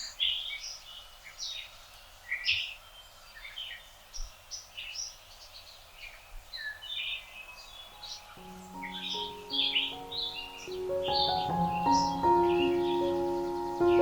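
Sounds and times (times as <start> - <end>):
faint outdoor hiss: 0.0 - 14.0
songbirds chirping and singing: 0.0 - 14.0.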